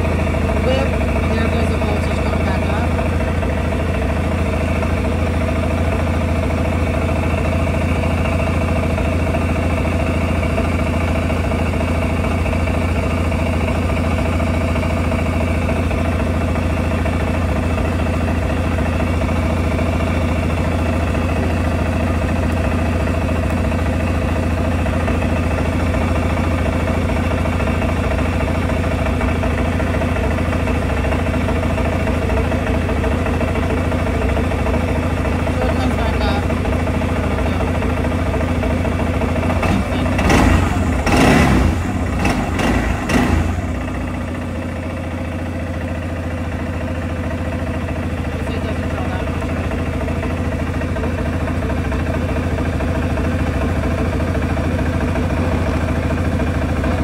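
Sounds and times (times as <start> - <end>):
atv engine idling: 0.0 - 57.0.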